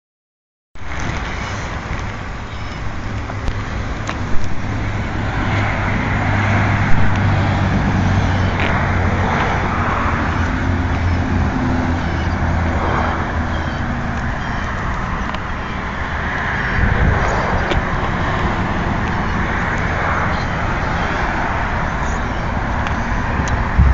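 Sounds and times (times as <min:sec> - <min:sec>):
vehicle engine running: 0:01.1 - 0:16.2, 0:16.8 - 0:23.9.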